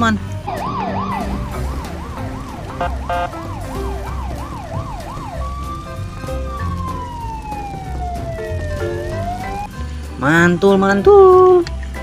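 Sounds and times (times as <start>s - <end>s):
fire engine siren wailing: 0.0s - 9.7s.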